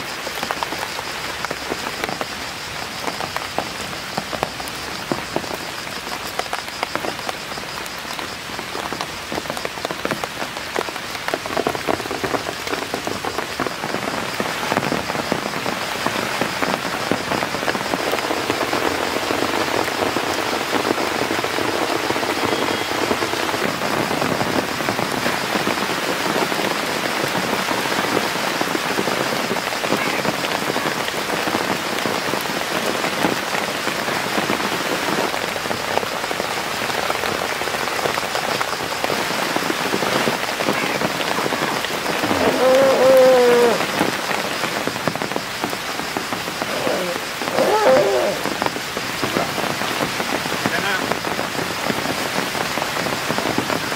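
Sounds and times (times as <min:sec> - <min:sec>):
rain falling on leaves: 0:00.0 - 0:53.9.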